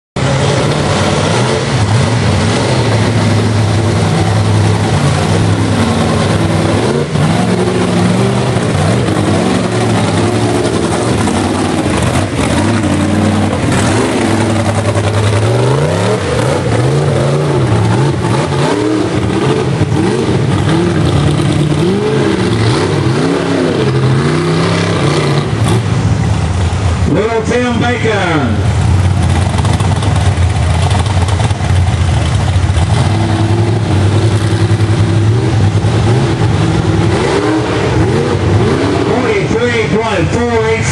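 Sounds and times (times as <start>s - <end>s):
engine revving under load: 0.2s - 27.2s, 28.1s - 40.2s.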